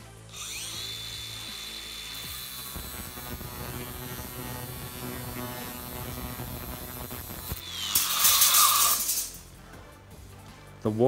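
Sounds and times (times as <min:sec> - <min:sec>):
angle grinder cutting steel: 0:00.3 - 0:09.4.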